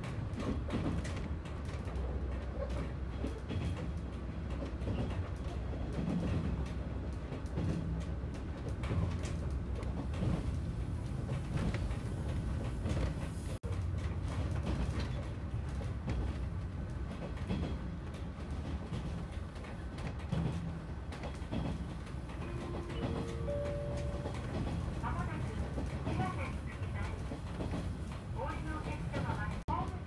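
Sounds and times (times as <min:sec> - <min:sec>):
train cabin rumble: 0:00.0 - 0:30.0.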